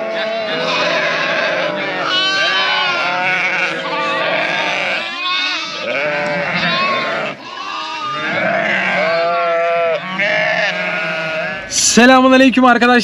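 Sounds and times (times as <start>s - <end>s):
sheep bleating: 0.0s - 11.8s.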